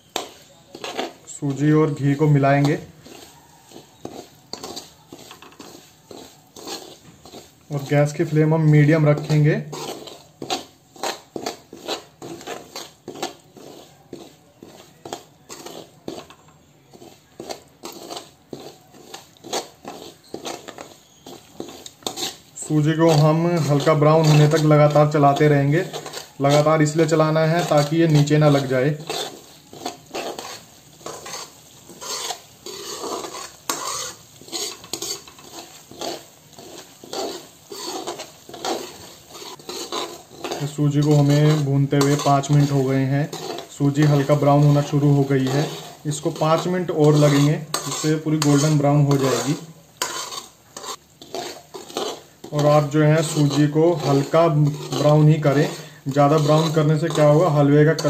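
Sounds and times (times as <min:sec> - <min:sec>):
faint ghee sizzle: 0:00.0 - 0:58.0
steel ladle scraping metal pan: 0:00.0 - 0:58.0.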